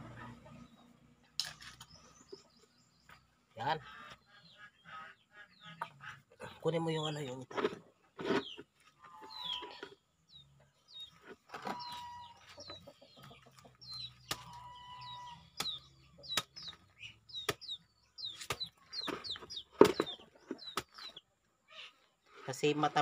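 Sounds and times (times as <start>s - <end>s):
chickens clucking and peeping: 0.0s - 7.2s, 8.0s - 22.0s.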